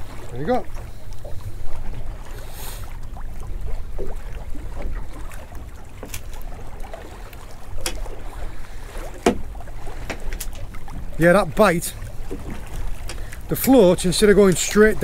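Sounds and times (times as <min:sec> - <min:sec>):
water lapping against hull: 0:00.0 - 0:15.0.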